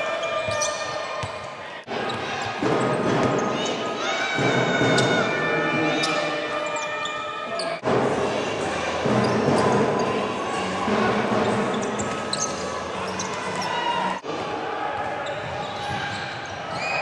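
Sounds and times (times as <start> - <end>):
crowd voices and shouting: 0.0 - 17.0.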